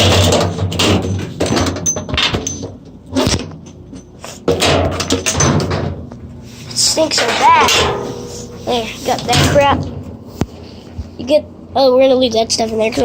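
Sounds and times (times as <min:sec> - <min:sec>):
items rustling and clattering: 0:00.0 - 0:11.2.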